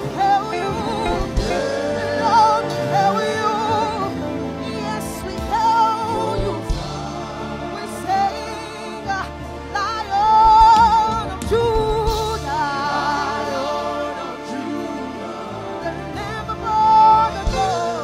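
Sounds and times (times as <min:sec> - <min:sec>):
woman singing: 0:00.0 - 0:15.1, 0:15.8 - 0:18.0
instrumental backing: 0:00.0 - 0:18.0.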